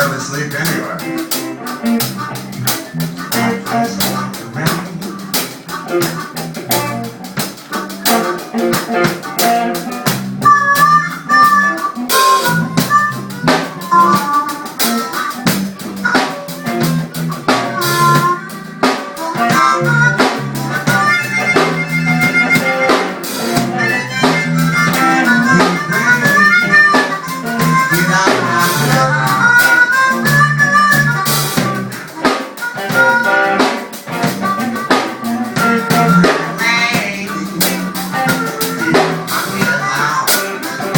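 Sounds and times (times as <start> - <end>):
blues band playing: 0.0 - 40.9
harmonica solo: 0.0 - 40.9.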